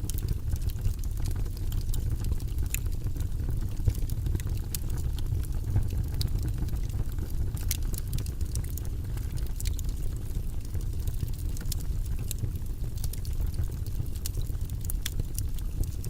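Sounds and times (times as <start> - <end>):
fire crackling in a fireplace: 0.0 - 16.0.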